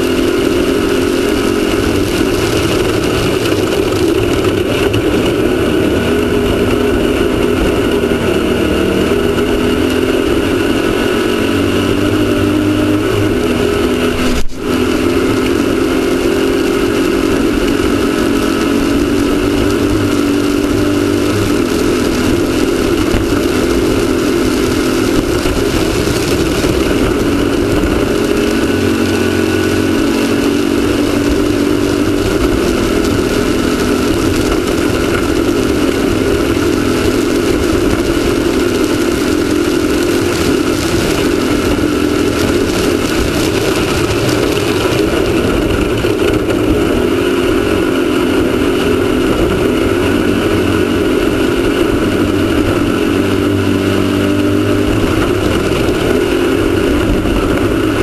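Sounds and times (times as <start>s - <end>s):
race car engine running hard: 0.0s - 58.0s
rushing noise of car at speed: 0.0s - 58.0s.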